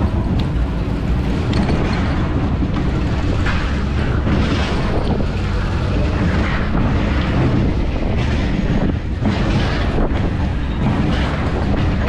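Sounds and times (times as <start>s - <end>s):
roller coaster rumbling on track: 0.0s - 12.0s
wind buffeting microphone: 0.0s - 12.0s.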